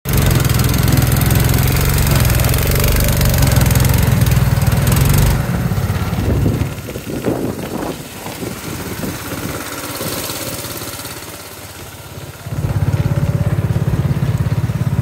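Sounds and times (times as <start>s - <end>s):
small engine running loudly: 0.0s - 15.0s.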